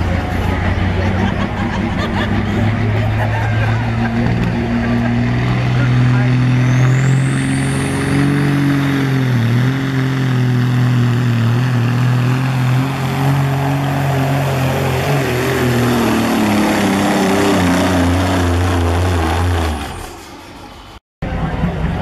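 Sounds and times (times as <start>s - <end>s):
diesel truck engine at full throttle: 0.0s - 22.0s.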